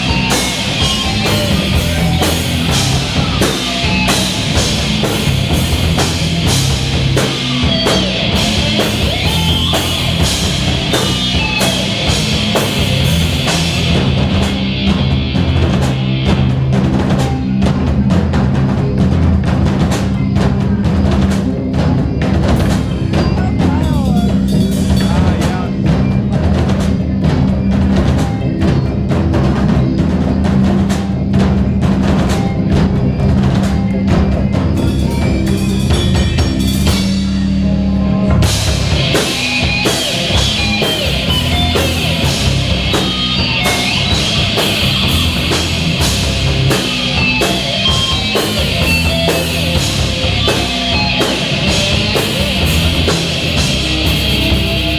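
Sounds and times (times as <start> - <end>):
bass guitar notes: 0.0 - 54.9
distorted electric guitar: 0.0 - 54.9
drum kit hits: 0.0 - 54.9.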